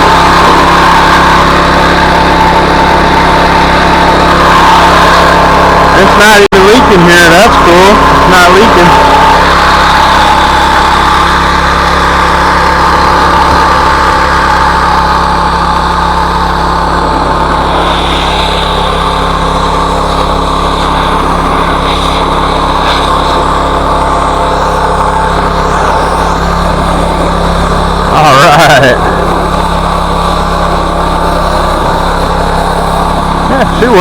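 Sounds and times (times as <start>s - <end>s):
pressure washer engine running: 0.0s - 34.0s.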